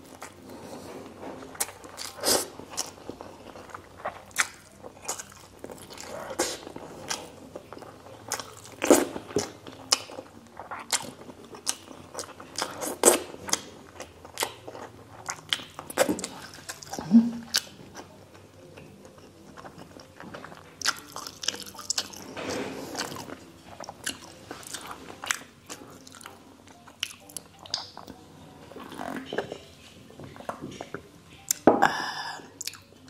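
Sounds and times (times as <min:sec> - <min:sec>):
wet chewing and lip smacking: 0:01.4 - 0:22.3, 0:23.0 - 0:28.2, 0:32.6 - 0:33.0.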